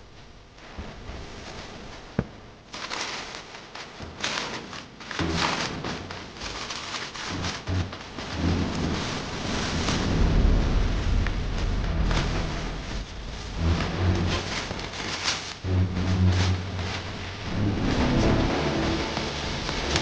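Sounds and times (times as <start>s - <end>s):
packaging crinkling and rustling: 0.8s - 20.0s.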